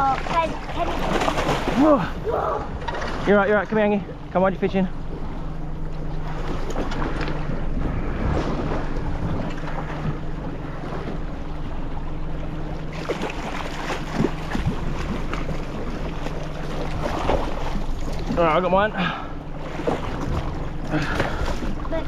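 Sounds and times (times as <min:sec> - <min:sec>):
boat engine running: 0:00.0 - 0:22.0
waves washing around hull: 0:00.0 - 0:22.0.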